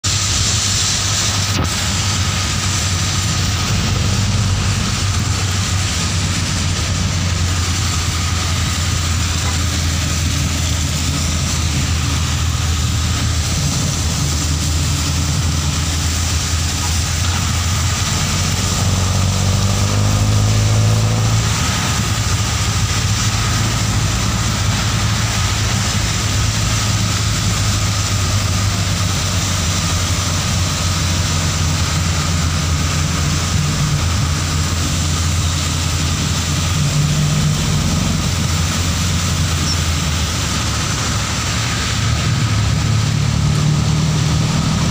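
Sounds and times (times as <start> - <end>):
tyres hissing on wet road: 0.0 - 44.9
vehicle engine drone: 0.0 - 44.9.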